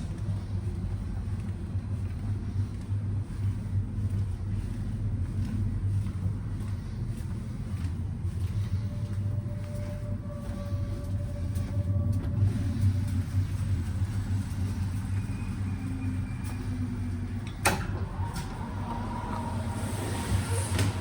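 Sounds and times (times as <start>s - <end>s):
train rumble inside compartment: 0.0s - 21.0s.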